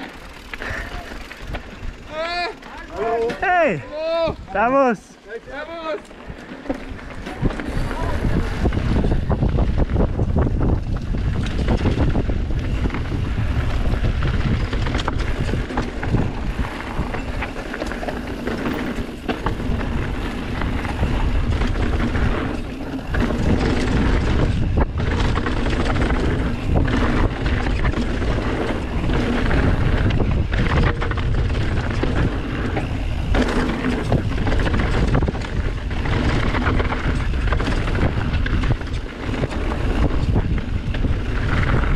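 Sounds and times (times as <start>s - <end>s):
bike tyres rolling on dirt: 0.0s - 41.9s
wind buffeting microphone: 3.0s - 41.9s
bike knocks and clicks: 6.1s - 41.9s.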